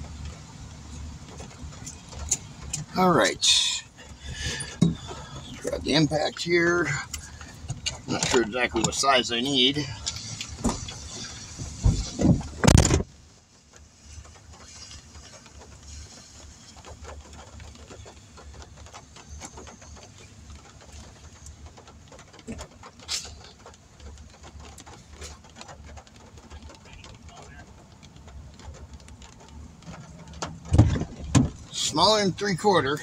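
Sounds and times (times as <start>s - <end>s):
low engine hum: 0.0s - 33.0s
rain pattering on a roof: 0.0s - 33.0s.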